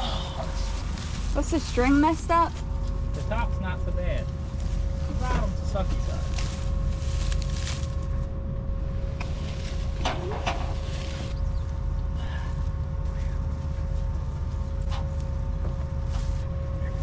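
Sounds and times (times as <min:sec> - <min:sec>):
machinery whine: 0:00.0 - 0:17.0
tractor engine running: 0:00.0 - 0:17.0.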